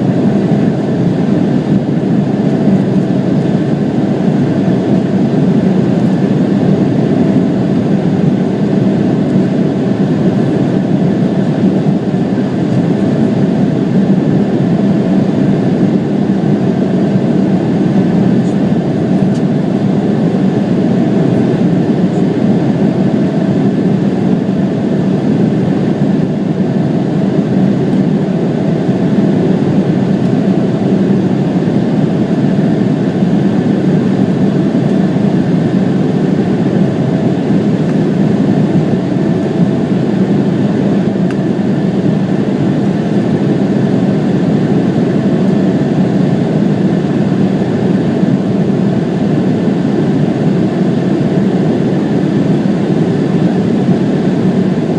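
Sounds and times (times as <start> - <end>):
jet engines droning: 0.0 - 54.9.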